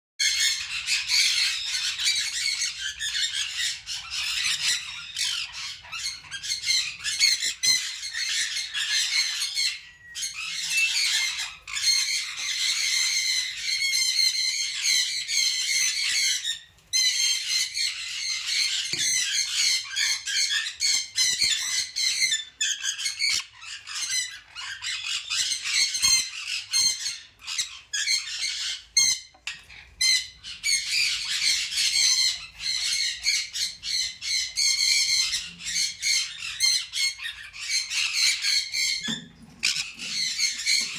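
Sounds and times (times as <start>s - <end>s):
flock of birds squawking: 0.2s - 40.9s.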